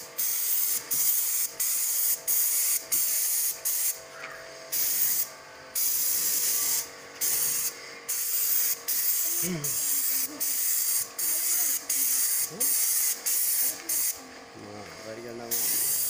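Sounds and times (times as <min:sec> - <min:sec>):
paint spray gun hissing: 0:00.0 - 0:16.0.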